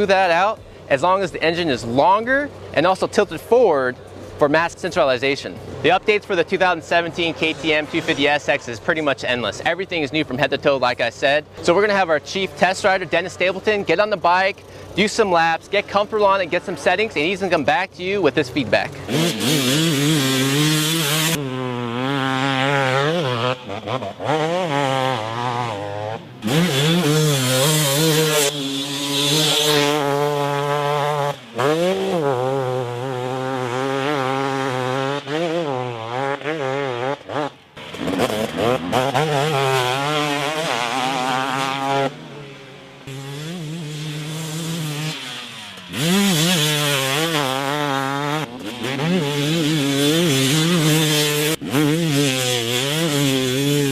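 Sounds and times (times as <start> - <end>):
motocross engine revving: 0.0 - 53.9.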